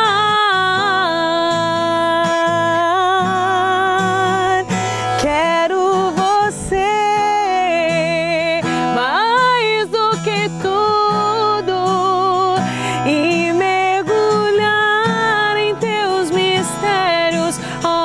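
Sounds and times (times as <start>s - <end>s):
acoustic guitar: 0.0s - 18.0s
woman singing: 0.0s - 18.0s.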